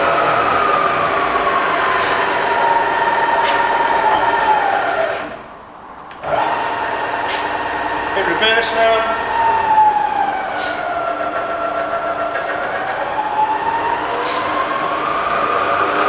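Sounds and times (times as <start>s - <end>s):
milling machine motor whine: 0.0s - 5.4s, 6.2s - 16.0s.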